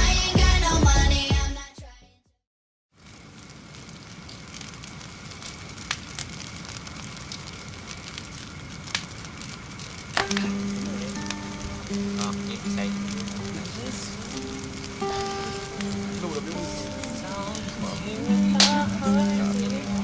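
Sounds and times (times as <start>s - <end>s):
campfire crackling and hissing: 0.0s - 1.3s, 2.9s - 20.0s.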